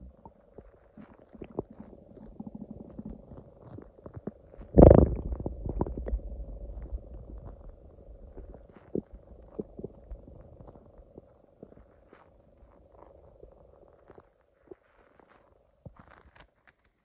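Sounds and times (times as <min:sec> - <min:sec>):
stomach growling: 0:00.0 - 0:16.5.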